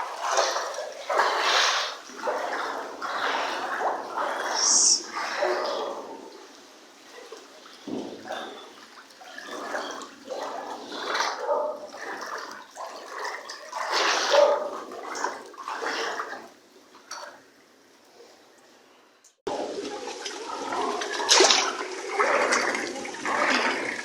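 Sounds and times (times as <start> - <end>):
floodwater rushing and gurgling: 0.0 - 16.5, 19.5 - 24.0.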